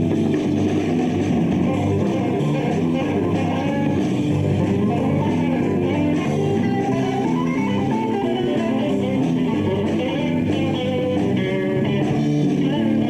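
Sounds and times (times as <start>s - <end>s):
bass guitar: 0.0s - 13.0s
drums: 0.0s - 13.0s
electric guitars: 0.0s - 13.0s.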